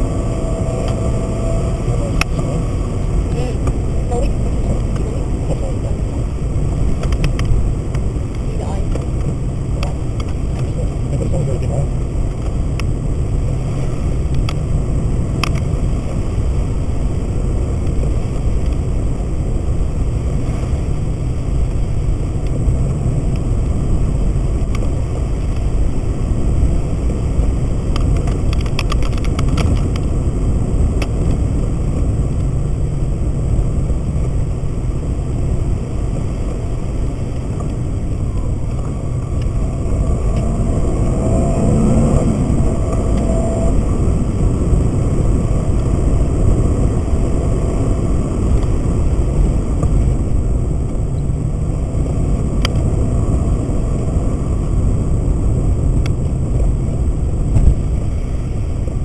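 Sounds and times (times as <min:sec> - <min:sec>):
engine and tyre rumble: 0:00.0 - 0:59.0.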